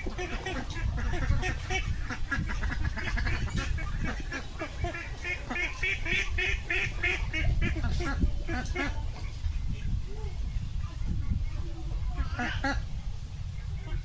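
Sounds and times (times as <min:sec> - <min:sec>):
ducks quacking: 0:00.0 - 0:14.0
steady low rumble: 0:00.0 - 0:14.0.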